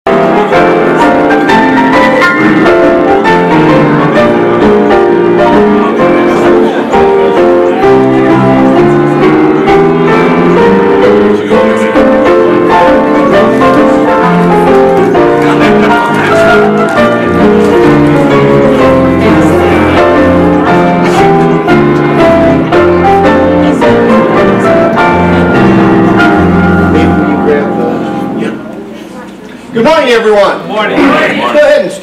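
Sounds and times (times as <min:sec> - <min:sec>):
piano music: 0:00.0 - 0:31.8.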